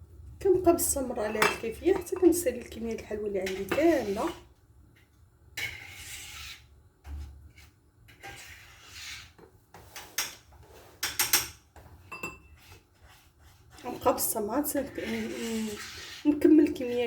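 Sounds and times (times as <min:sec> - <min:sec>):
cookies rolled in sugar: 0:00.5 - 0:17.0.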